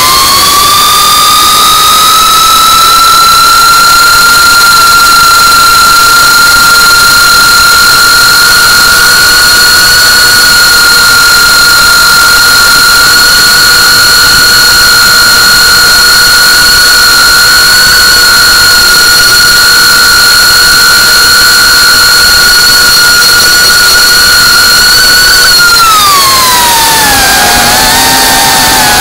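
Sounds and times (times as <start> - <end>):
drone propellers whining: 0.0 - 16.3, 16.9 - 29.0.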